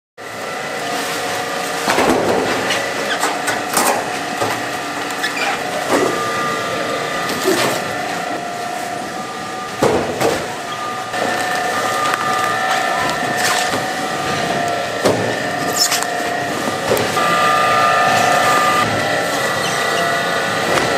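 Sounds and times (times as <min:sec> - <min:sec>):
machinery humming: 0:00.2 - 0:20.9.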